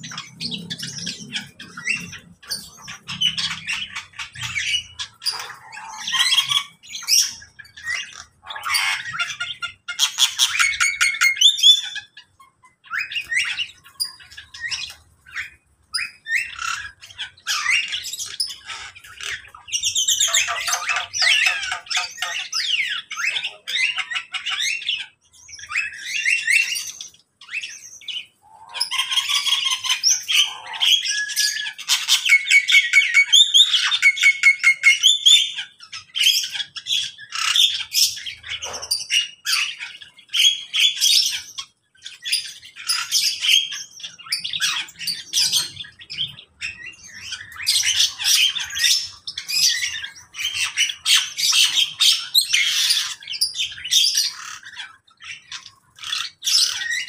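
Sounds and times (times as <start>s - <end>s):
birds chirping and squawking: 0.0s - 57.0s.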